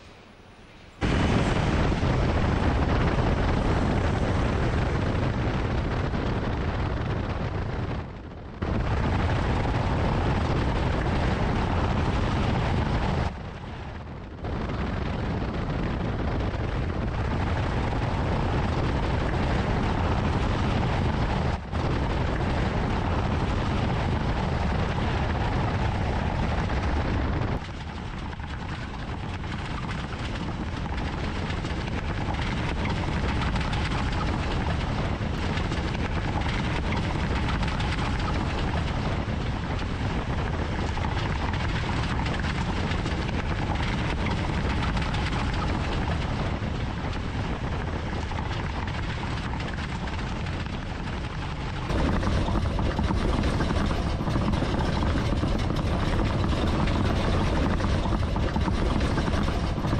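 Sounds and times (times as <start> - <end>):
engine rumble: 0.0 - 59.9.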